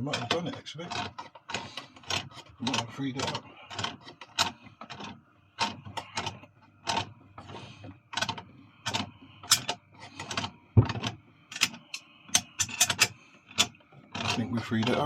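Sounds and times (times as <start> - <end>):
pump clacking knocks: 0.0 - 15.0
pump whining: 0.0 - 15.0.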